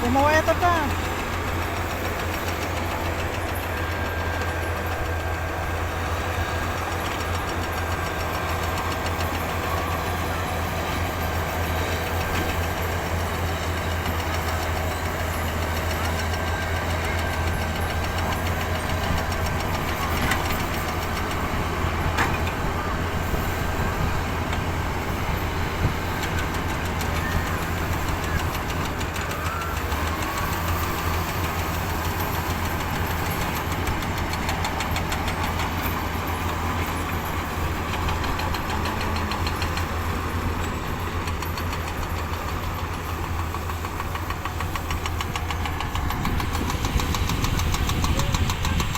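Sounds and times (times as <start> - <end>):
diesel machinery engine drone: 0.0 - 48.9.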